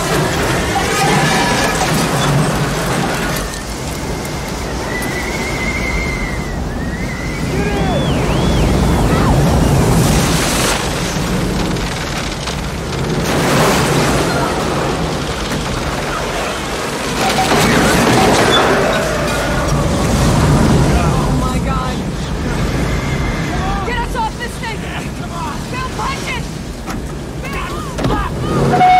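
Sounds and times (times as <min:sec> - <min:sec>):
debris surges: 0:00.0 - 0:28.9
rushing storm wind: 0:00.0 - 0:28.9.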